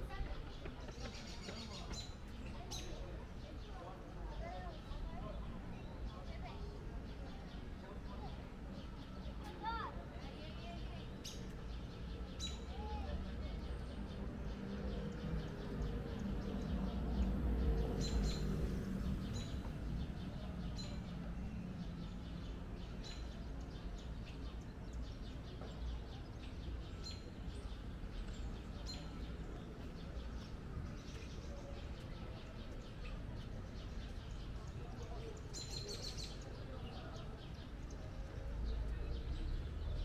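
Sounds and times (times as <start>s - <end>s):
small birds chirping: 0.0s - 40.0s
traffic rumble: 0.0s - 40.0s.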